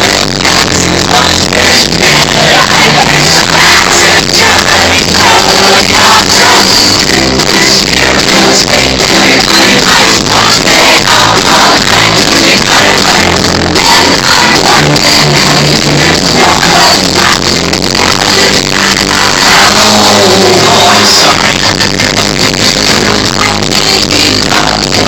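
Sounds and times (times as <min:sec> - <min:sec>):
distorted live band with singing: 0:00.0 - 0:25.0.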